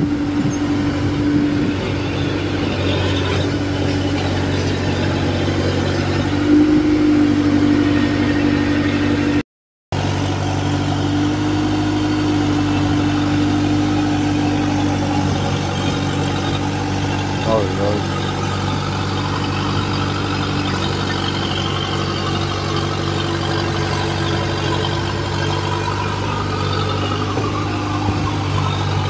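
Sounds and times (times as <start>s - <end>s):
combine harvester engine running: 0.0s - 29.0s.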